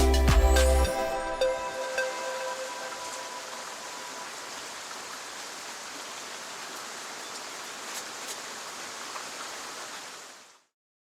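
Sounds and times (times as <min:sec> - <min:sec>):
running water rushing: 0:01.0 - 0:10.7.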